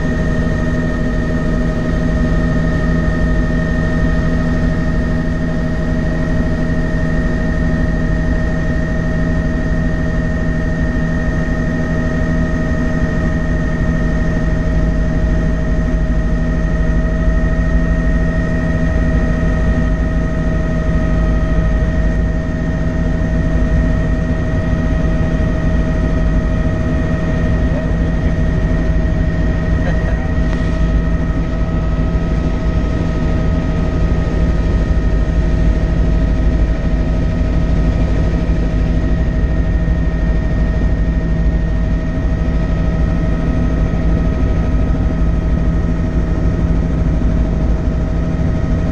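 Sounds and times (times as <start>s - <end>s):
helicopter flying: 0.0s - 48.9s.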